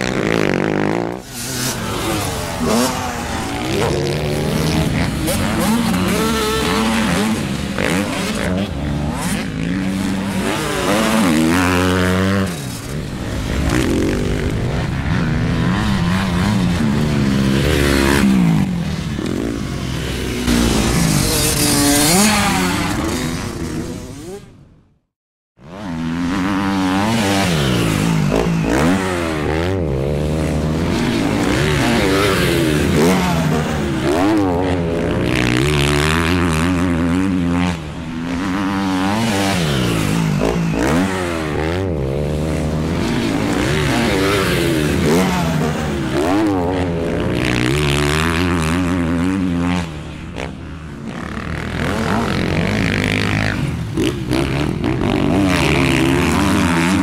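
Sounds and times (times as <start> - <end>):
dirt bike engine revving: 0.0 - 24.5, 25.6 - 57.0.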